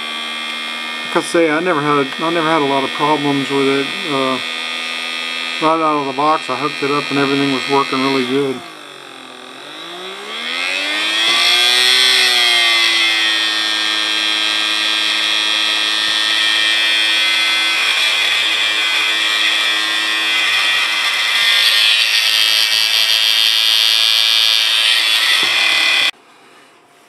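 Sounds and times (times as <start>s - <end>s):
small electric motor whining: 0.0s - 26.2s.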